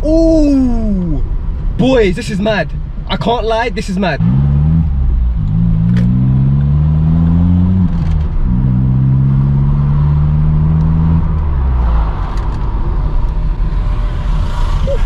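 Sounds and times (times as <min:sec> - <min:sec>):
loud car engine driving: 0:00.0 - 0:15.0
road noise: 0:00.0 - 0:15.0.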